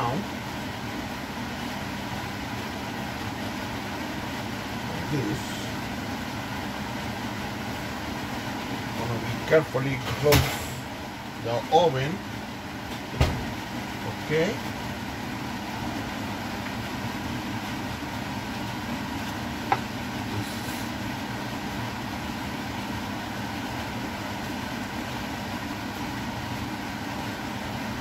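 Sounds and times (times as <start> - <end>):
kitchen appliance humming: 0.0 - 28.0.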